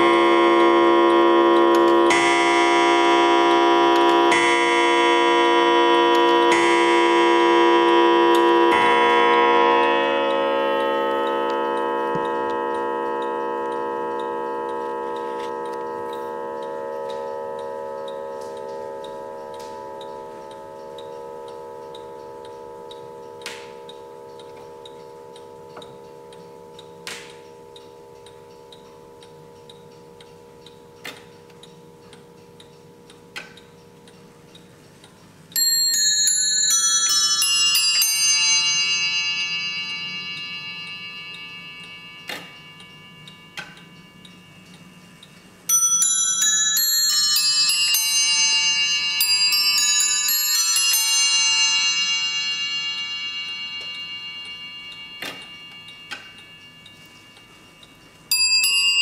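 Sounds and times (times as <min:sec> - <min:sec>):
clock movement clicks: 0:00.0 - 0:06.9, 0:09.9 - 0:37.5, 0:38.7 - 0:59.0
clock chiming on bells: 0:00.0 - 0:59.0.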